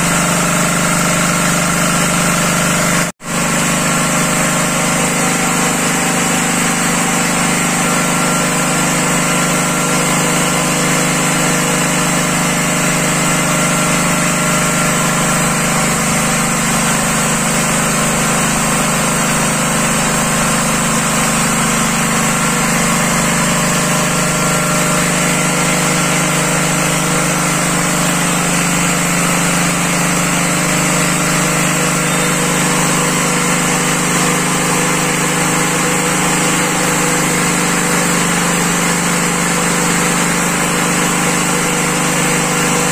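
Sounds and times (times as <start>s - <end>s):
stationary engine running: 0.0s - 42.9s.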